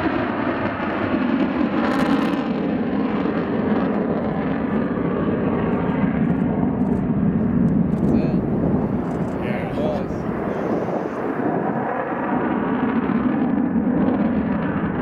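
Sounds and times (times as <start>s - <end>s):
fighter jet flying overhead: 0.0s - 15.0s.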